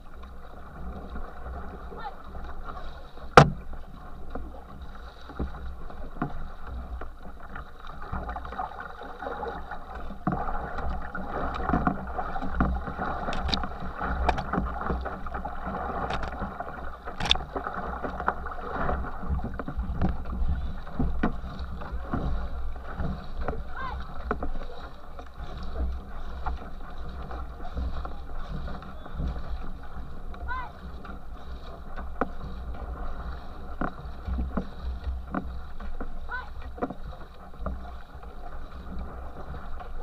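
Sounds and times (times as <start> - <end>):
water rushing past a canoe: 0.0 - 40.0.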